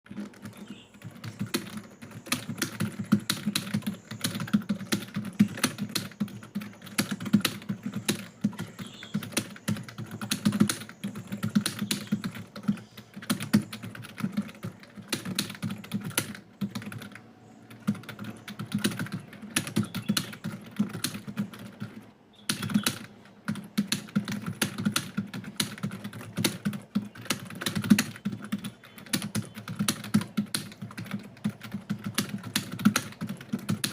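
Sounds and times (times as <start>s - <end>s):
fast keyboard typing: 0.1s - 33.9s.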